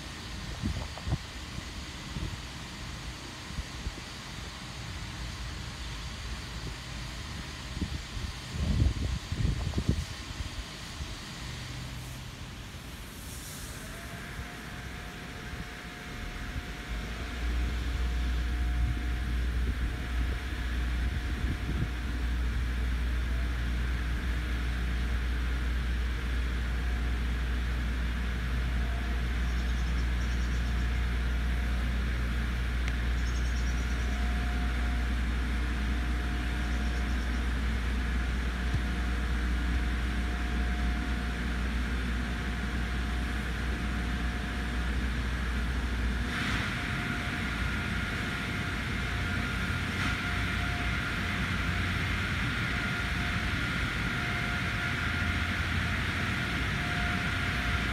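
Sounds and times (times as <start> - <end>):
faint constant hum: 0.0 - 57.9
low mechanical rumble: 0.0 - 57.9.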